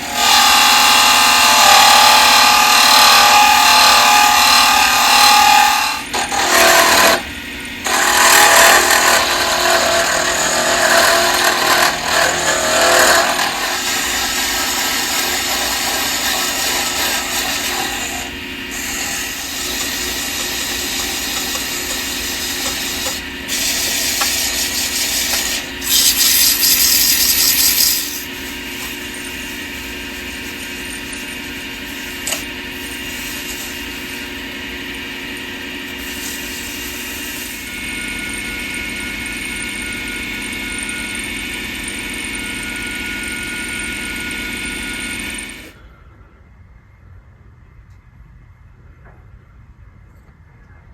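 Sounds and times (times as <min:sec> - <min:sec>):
tool scraping spinning wood: 0:00.0 - 0:45.7
lathe motor hum: 0:00.0 - 0:45.8.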